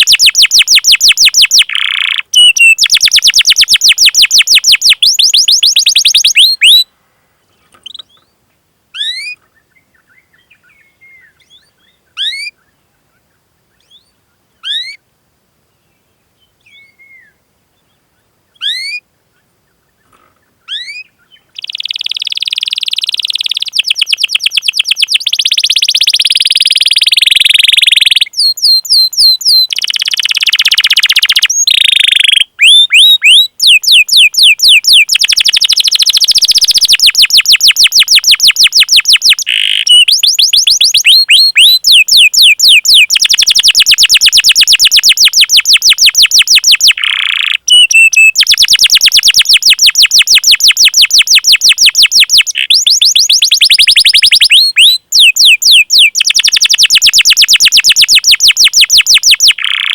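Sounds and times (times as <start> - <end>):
canary singing trills: 0.0 - 6.9, 9.0 - 12.8, 13.7 - 15.0, 16.4 - 19.0, 20.0 - 59.9.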